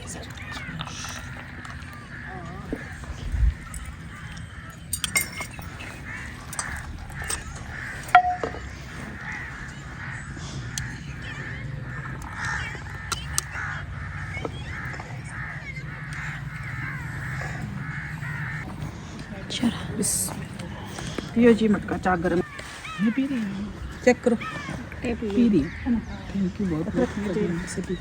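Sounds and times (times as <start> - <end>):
crows cawing: 0.0 - 28.0.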